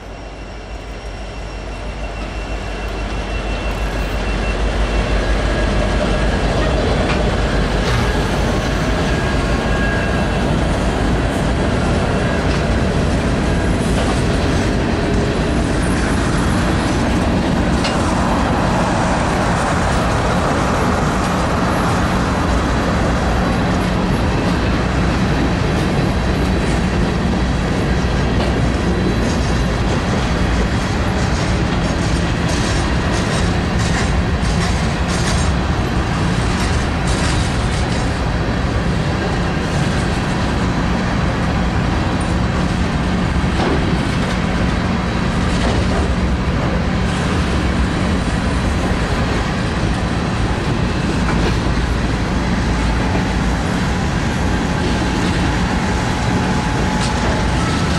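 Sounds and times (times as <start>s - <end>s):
diesel locomotive passing: 0.0s - 57.9s
train wheels rolling on rails: 0.0s - 57.9s.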